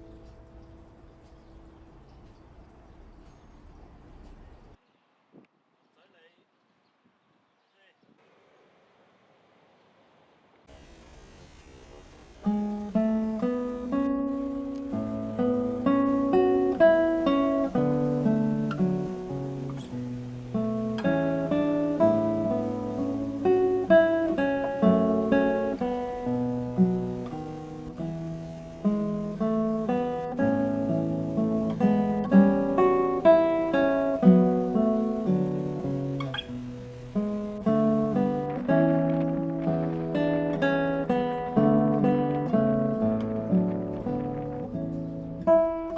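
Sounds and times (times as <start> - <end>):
fingerpicked acoustic guitar: 0.0 - 2.4, 10.7 - 45.9.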